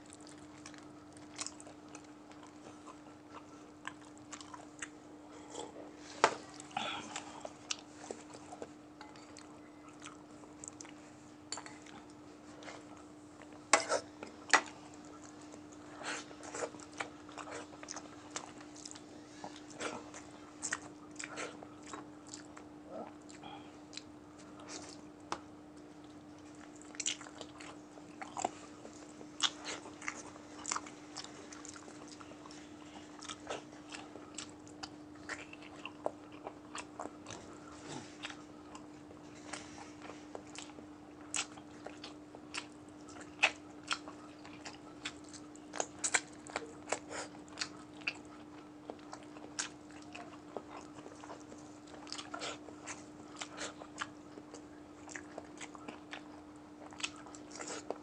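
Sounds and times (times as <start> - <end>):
person chewing and smacking: 0.0 - 58.0
steady low hum: 0.0 - 58.0.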